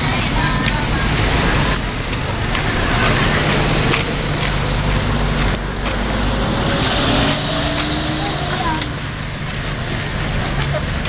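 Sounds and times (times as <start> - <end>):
low hum: 0.0 - 11.0
traffic noise: 0.0 - 11.0.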